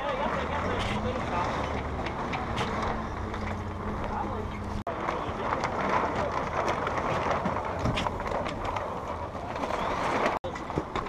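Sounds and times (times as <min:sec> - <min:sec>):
rigging clattering: 0:00.0 - 0:11.0
sails flapping: 0:00.0 - 0:11.0.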